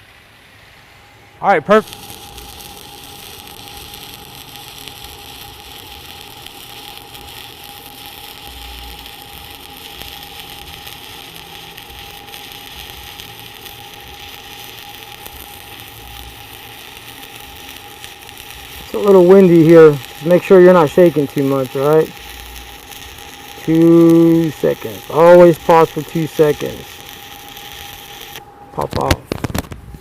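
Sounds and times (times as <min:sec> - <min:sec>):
high whine: 0:00.8 - 0:29.7
welding arc sizzling and crackling: 0:01.4 - 0:30.0.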